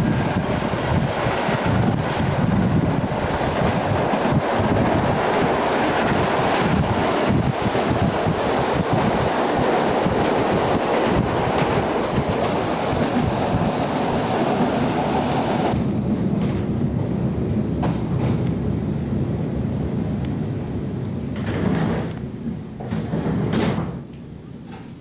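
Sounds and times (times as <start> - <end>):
train knocks: 0.0 - 18.7, 21.3 - 25.0
train wheels on rails: 0.0 - 25.0.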